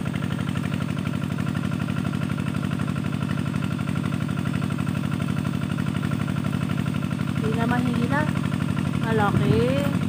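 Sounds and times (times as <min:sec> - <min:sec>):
water pump engine running: 0:00.0 - 0:10.0.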